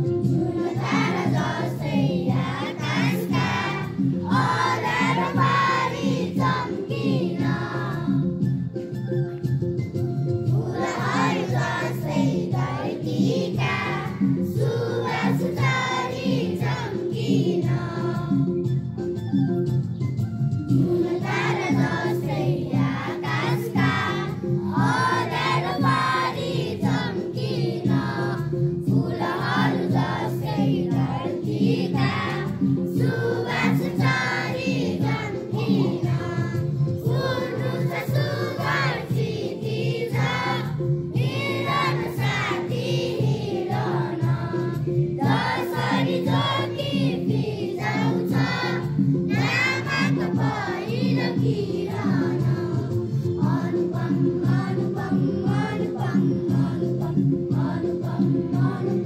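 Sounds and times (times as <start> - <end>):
children singing together: 0.0 - 8.2, 10.5 - 18.6, 20.8 - 59.0
instrumental accompaniment: 0.0 - 59.0.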